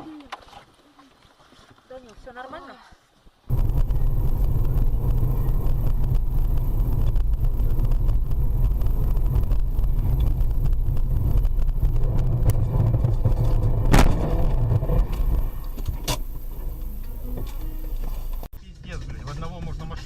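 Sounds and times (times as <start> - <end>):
car engine and road rumble: 3.5 - 20.0.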